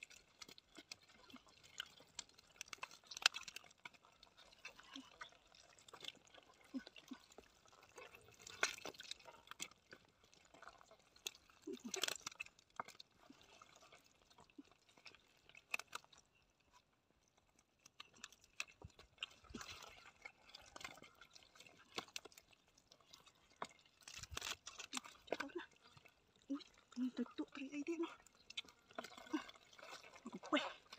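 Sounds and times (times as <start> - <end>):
wet mud squelching: 0.0 - 30.9.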